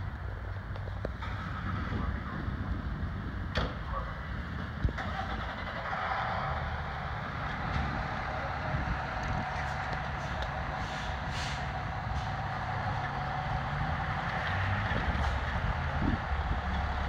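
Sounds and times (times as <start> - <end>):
low rumble of fire truck idling: 0.0 - 17.0.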